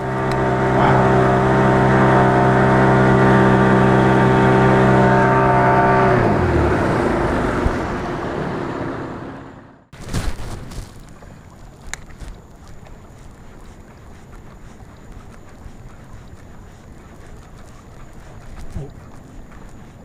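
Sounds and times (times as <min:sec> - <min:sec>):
motorboat engine passing: 0:00.0 - 0:20.0.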